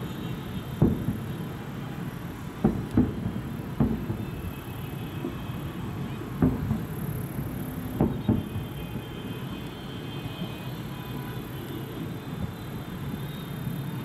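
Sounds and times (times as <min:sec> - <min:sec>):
fireworks booming: 0:00.1 - 0:13.2.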